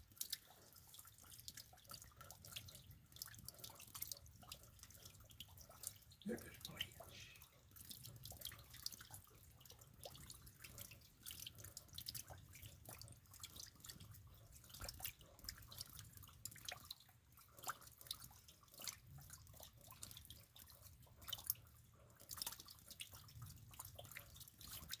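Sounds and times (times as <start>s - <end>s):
rain drips and taps: 0.0s - 25.0s.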